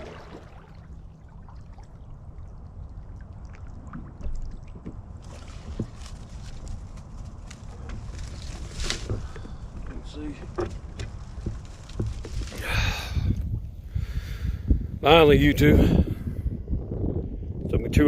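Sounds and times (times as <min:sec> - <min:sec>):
wind rumble on microphone: 0:01.6 - 0:18.0.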